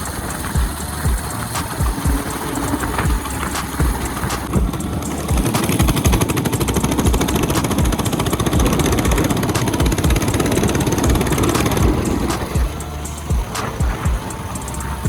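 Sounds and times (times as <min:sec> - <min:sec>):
mini bike engine running: 0:00.0 - 0:15.0.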